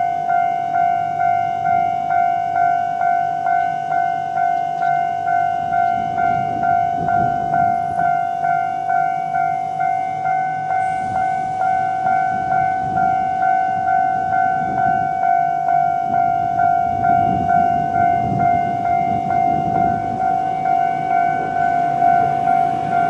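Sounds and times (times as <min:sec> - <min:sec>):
level-crossing alarm bell: 0:00.0 - 0:23.0
train rumbling past: 0:00.0 - 0:23.0.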